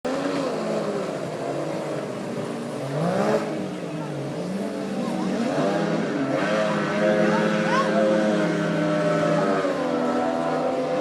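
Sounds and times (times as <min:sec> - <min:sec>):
outboard motors revving: 0:00.0 - 0:11.0.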